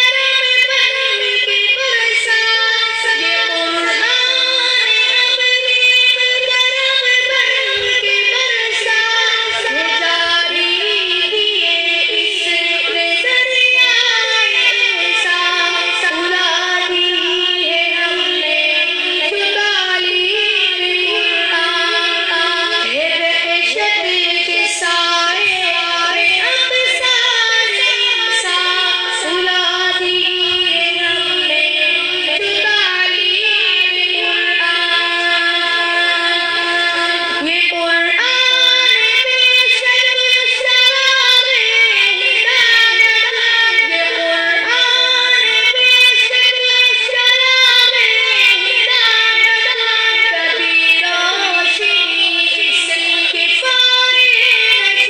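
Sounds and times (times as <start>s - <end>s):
person singing in a high voice: 0.0s - 55.0s.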